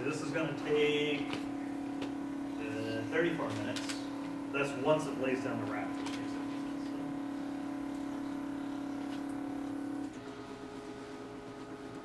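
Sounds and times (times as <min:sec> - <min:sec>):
faint motor tone: 0:00.0 - 0:12.0.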